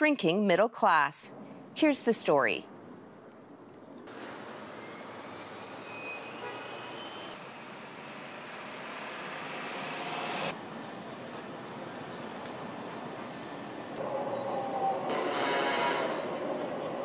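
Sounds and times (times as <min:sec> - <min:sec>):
passing traffic: 0:02.4 - 0:17.0.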